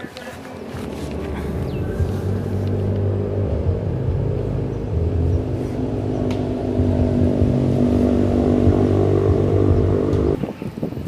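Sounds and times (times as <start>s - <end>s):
engine humming: 0.0s - 10.4s.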